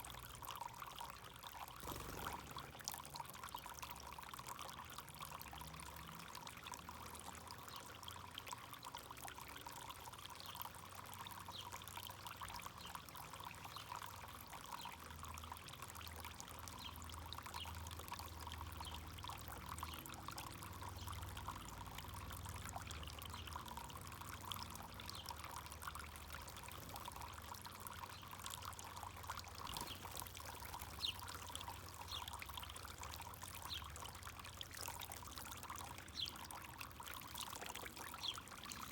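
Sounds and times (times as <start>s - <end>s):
fountain water trickling: 0.0s - 38.9s.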